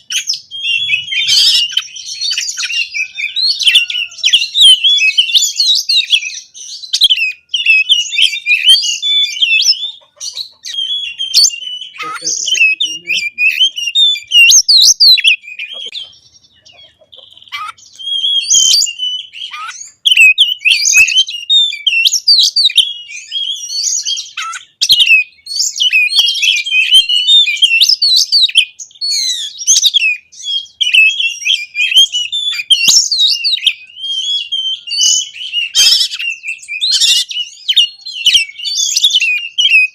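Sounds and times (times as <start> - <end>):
bird singing whistles and chatter: 0.0 - 39.9.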